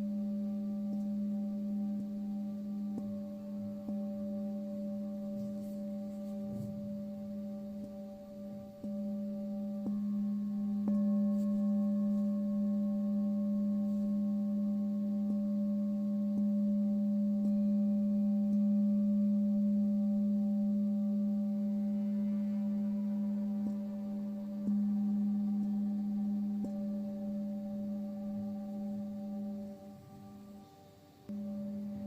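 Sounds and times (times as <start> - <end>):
singing bowl ringing: 0.0 - 32.0.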